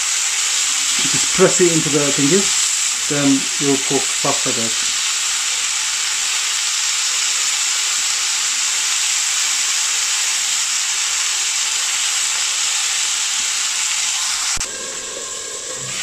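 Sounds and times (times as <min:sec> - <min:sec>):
skewers sizzling in a grill pan: 0:00.0 - 0:16.0.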